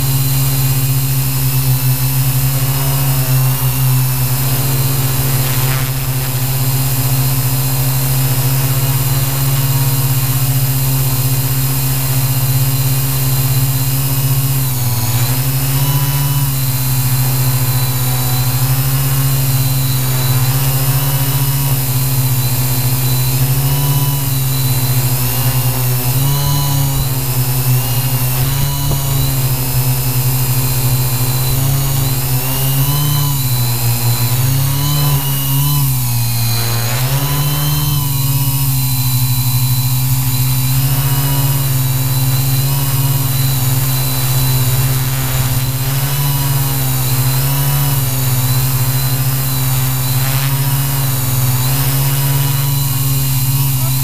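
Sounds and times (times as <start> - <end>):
drone motors buzzing whine: 0.0 - 54.0.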